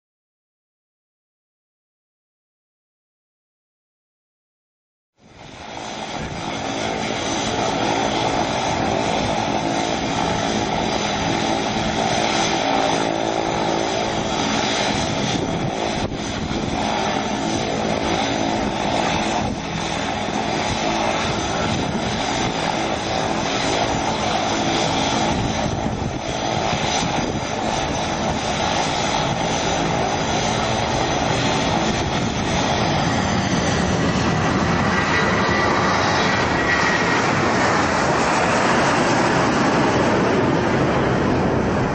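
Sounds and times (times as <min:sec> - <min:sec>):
jet engines at high power: 0:05.2 - 0:41.9.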